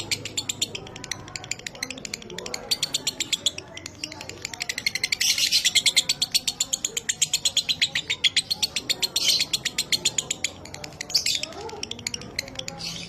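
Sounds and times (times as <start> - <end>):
lovebird chatter: 0.0 - 13.0.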